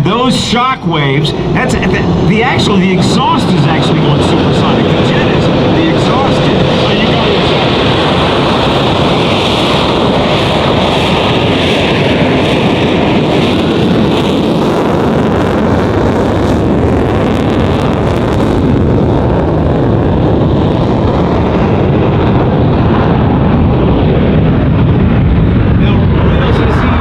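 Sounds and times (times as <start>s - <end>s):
jet passing in afterburner: 0.0s - 27.0s.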